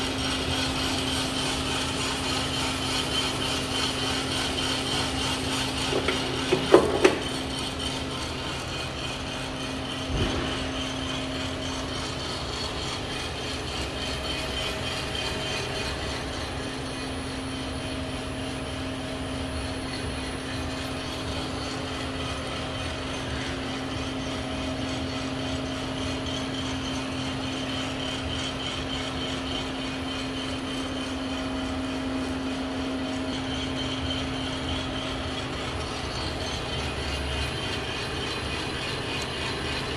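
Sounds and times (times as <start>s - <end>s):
coffee roaster humming: 0.0s - 39.9s.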